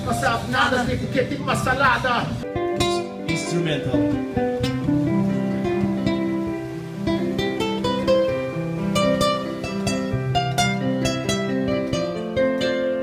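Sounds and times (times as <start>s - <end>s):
held keyboard notes: 0.0s - 13.0s
plucked acoustic guitar: 0.0s - 13.0s.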